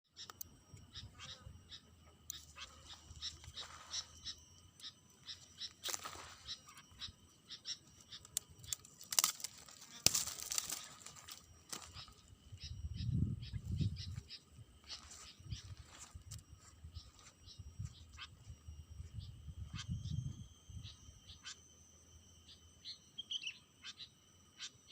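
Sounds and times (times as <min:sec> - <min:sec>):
bird chirping: 0:00.0 - 0:24.9
faint high whine: 0:00.0 - 0:24.9.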